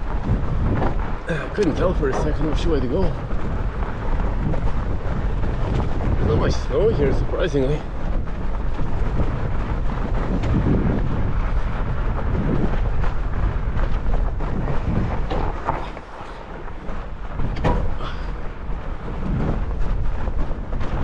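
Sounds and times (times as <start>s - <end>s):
bike clicks and rattles: 0.0s - 21.0s
bike tyres rolling on snow: 0.0s - 21.0s
wind buffeting microphone: 0.0s - 21.0s.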